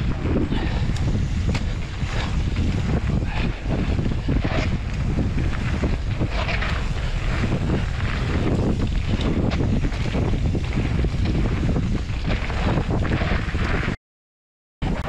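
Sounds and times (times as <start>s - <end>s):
mountain bike rumble and rattle: 0.0s - 14.0s
wind noise on microphone: 0.0s - 14.0s.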